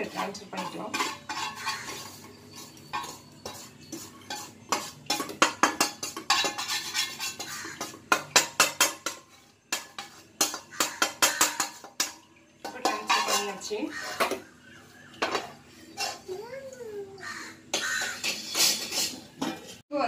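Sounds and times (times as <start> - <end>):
metal pan scraping and clinking: 0.0 - 14.5, 15.2 - 16.4, 17.6 - 19.8.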